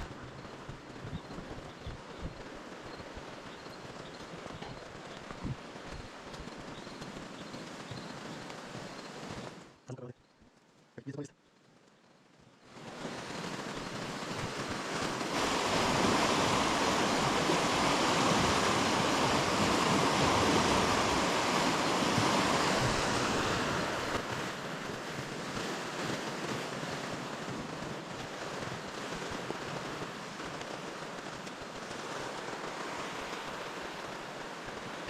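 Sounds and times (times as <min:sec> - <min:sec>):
rushing river water: 0:00.0 - 0:09.8, 0:12.7 - 0:35.0.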